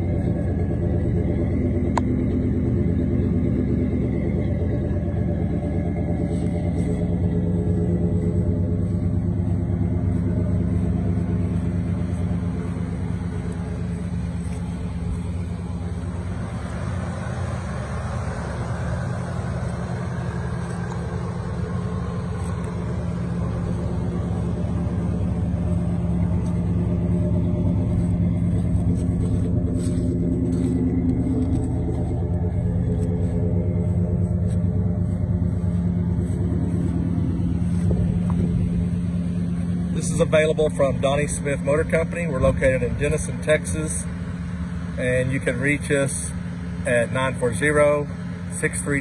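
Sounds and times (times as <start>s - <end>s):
car engine idling: 0.0s - 49.0s
hissy engine sound: 0.0s - 49.0s.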